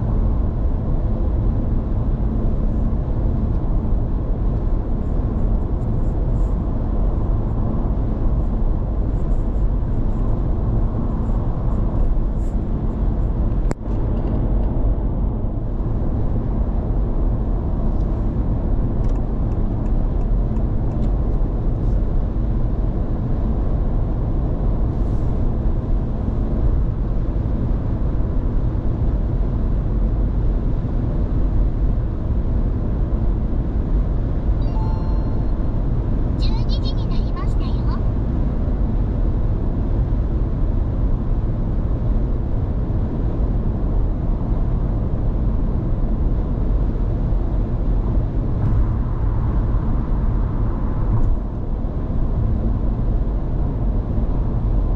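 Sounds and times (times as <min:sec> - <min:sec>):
road and tyre noise in car: 0:00.0 - 0:54.9.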